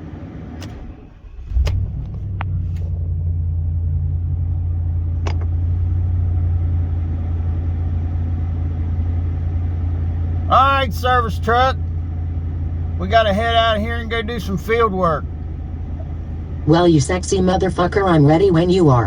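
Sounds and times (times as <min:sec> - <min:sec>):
truck engine starting and idling: 0:00.0 - 0:19.0.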